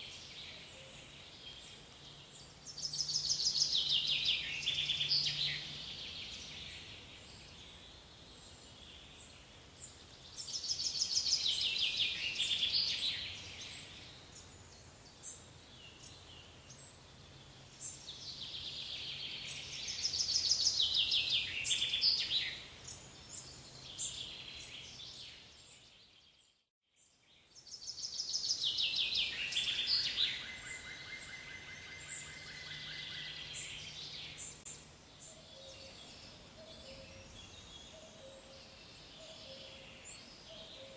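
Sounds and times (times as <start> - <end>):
songbird trilled song: 0.0 - 40.9.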